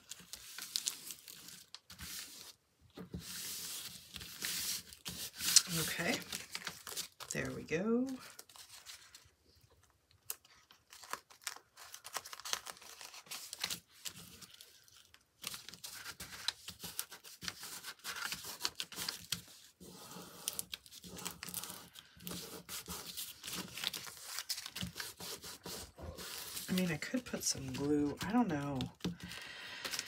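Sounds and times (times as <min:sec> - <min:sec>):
tissue paper crinkling: 0:00.0 - 0:02.6, 0:03.2 - 0:07.4, 0:08.0 - 0:30.0.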